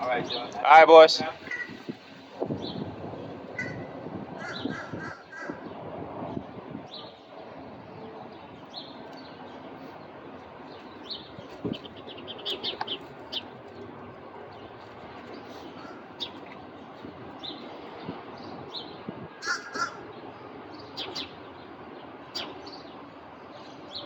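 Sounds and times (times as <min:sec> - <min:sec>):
small birds chirping: 0:00.0 - 0:24.0
steady background noise: 0:00.0 - 0:24.0.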